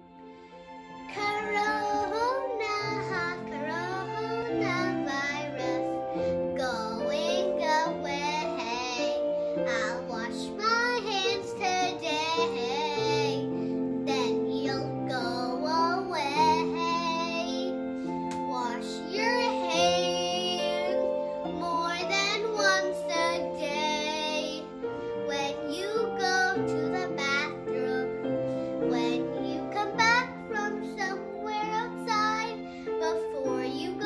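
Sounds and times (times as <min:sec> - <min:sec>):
boy singing: 0:01.1 - 0:34.0.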